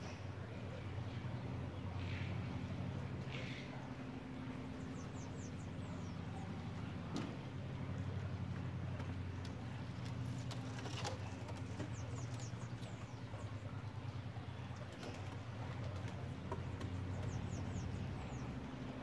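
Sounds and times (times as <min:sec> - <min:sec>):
low motor hum: 0:00.0 - 0:19.0
small birds chirping: 0:00.0 - 0:19.0.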